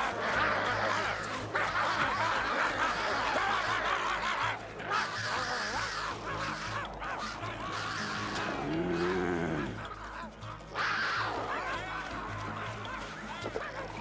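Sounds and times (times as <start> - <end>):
background music: 0.0 - 14.0
cartoon dogs yapping and cackling: 0.0 - 14.0.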